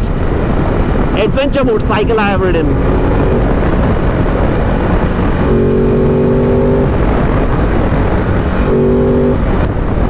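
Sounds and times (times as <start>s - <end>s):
wind and road noise: 0.0s - 10.0s
motorcycle engine running: 0.9s - 9.9s.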